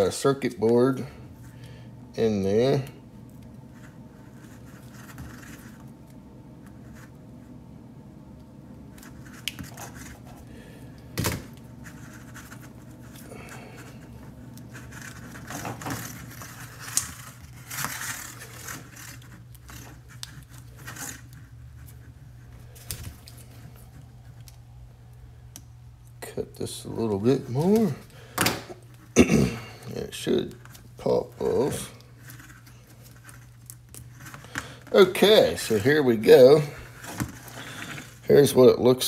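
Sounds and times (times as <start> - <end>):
crinkling and handling rustle: 0.0 - 7.7, 8.3 - 39.0
steady low hum: 0.0 - 39.0.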